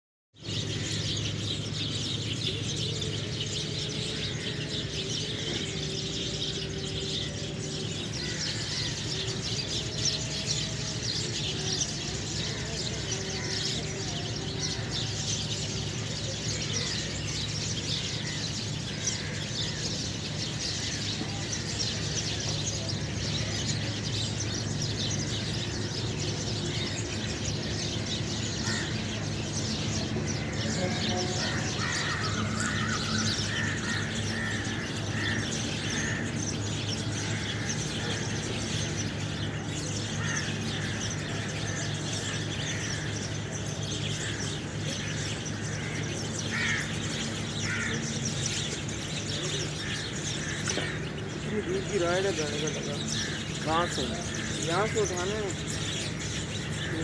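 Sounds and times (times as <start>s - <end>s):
small birds chirping: 0.4s - 57.0s.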